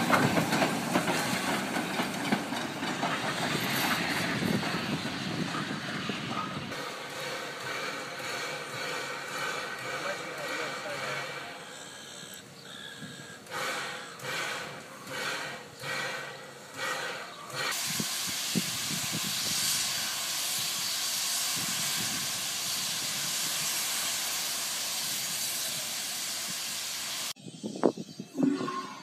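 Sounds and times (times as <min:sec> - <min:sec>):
steam hissing: 0:00.0 - 0:27.4
steam locomotive chuffs: 0:00.0 - 0:27.4.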